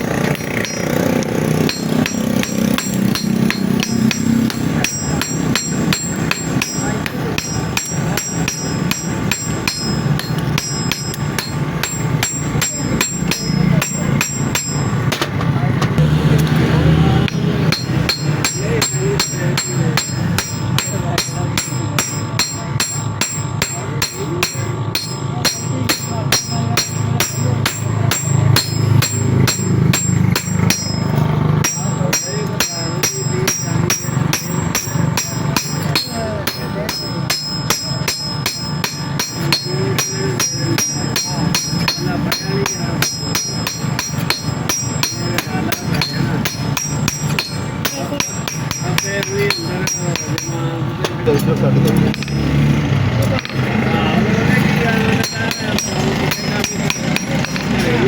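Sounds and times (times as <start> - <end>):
hammer striking metal: 0.0 - 58.0.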